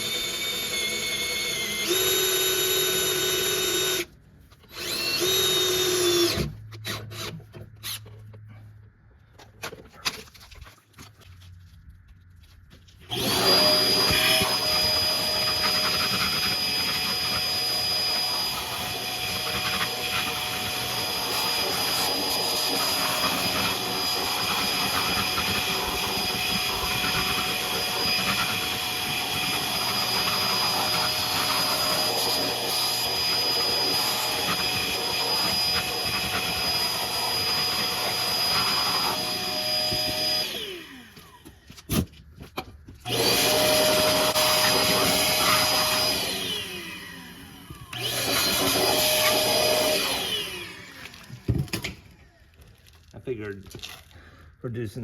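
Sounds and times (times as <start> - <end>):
electric drill boring into steel: 0.0 - 4.1, 4.7 - 7.4, 13.1 - 41.6, 43.1 - 52.0.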